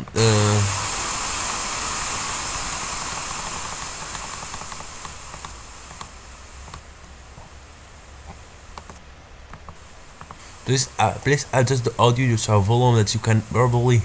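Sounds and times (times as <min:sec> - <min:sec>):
steady hiss from speakers: 0:00.0 - 0:14.0.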